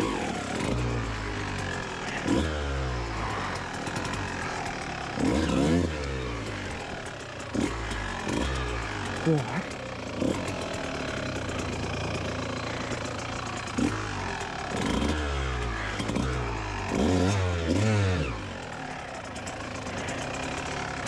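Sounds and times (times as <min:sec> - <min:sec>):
dirt bike engine idling and revving: 0:00.0 - 0:21.0.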